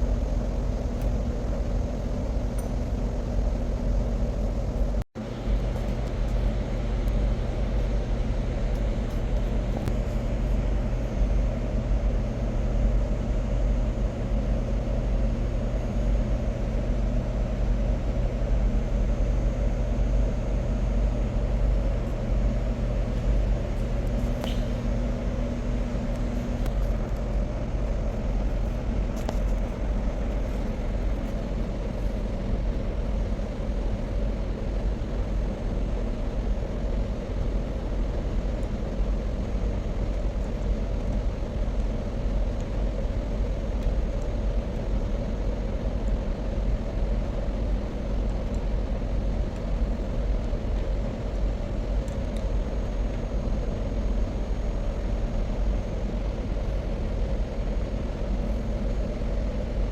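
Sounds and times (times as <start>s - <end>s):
machinery rumble and hum: 0.0s - 59.9s.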